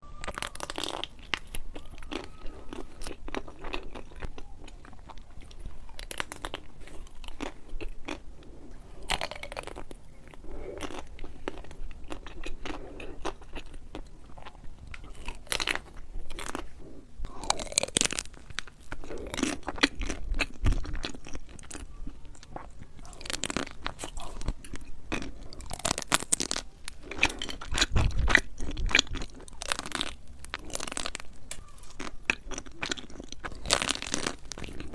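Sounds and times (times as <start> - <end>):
crunching of crisp food: 0.0 - 34.9
soft chewing: 0.1 - 34.9.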